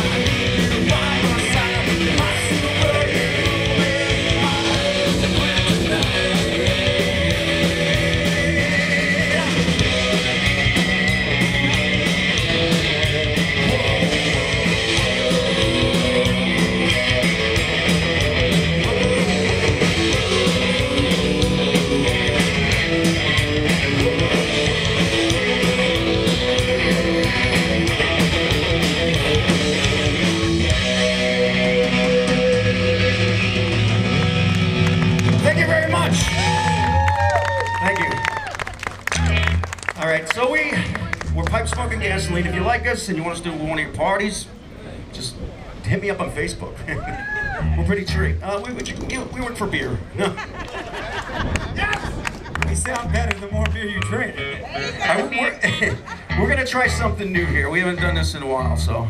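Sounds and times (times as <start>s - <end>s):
electric guitar: 0.0s - 40.0s, 50.0s - 59.0s
live rock band playing: 0.0s - 42.9s, 51.1s - 59.0s.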